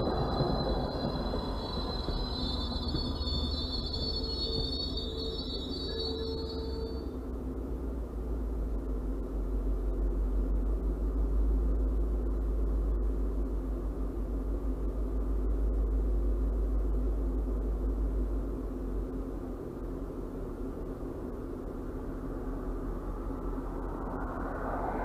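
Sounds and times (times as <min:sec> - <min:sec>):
engine idling rumble: 0:00.0 - 0:25.0.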